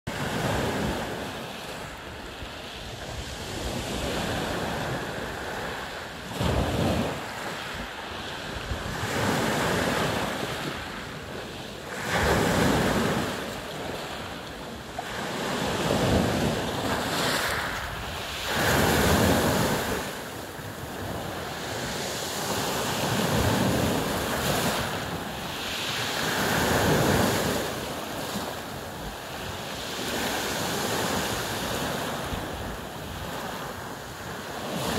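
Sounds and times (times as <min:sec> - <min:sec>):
waves breaking on pebble beach: 0:00.2 - 0:34.9.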